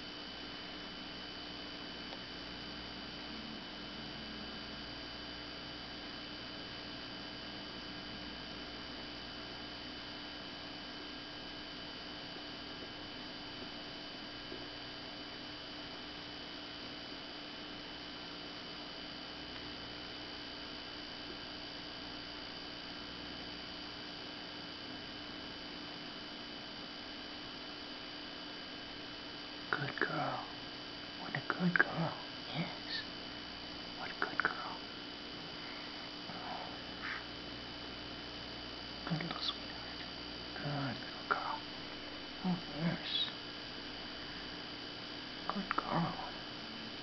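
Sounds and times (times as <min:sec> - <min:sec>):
electrical hum and hiss: 0:00.0 - 0:47.0.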